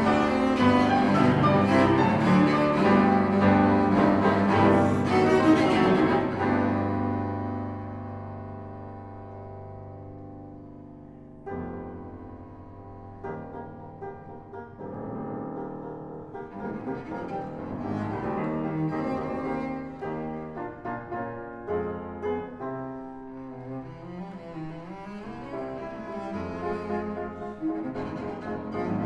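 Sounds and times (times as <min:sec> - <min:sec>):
cello: 0:00.0 - 0:29.0
piano: 0:00.0 - 0:29.0.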